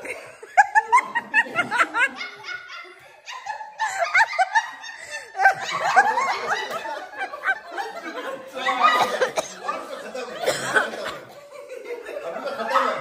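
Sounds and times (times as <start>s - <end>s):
group of adults laughing: 0.0s - 13.0s.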